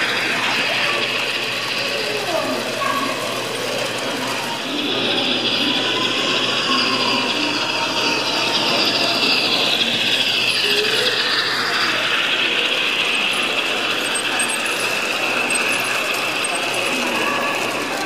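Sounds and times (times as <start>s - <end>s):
model train clattering on track: 0.0s - 18.0s.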